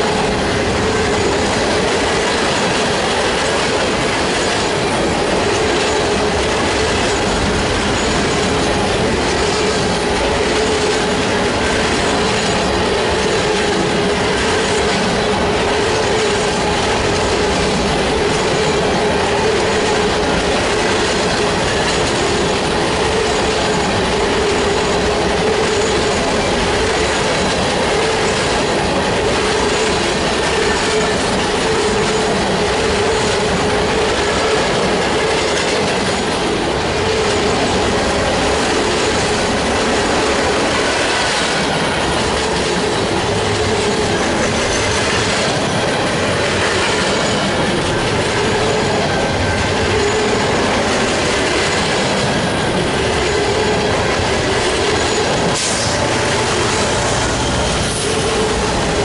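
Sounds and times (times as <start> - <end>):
steady whine: 0.0 - 59.0
train wheels rumbling and clattering: 0.0 - 59.0.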